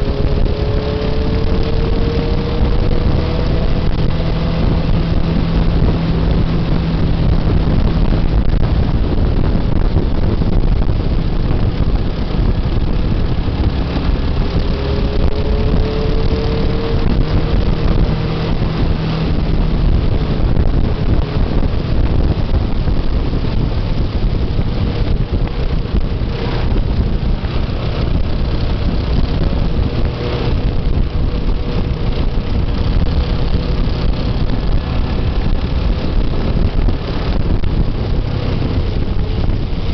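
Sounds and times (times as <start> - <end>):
motorcycle engine riding: 0.0 - 39.9
wind rush on microphone: 0.0 - 39.9.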